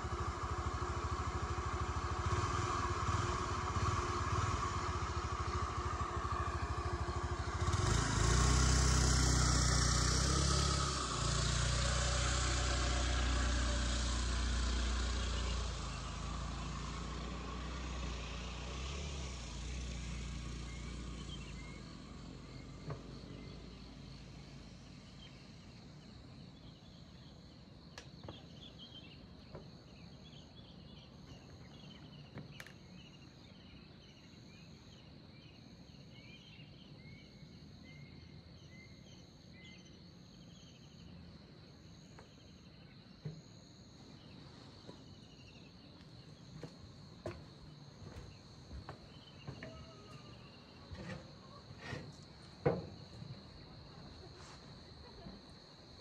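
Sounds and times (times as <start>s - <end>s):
pulsing insect call: 0.0s - 56.0s.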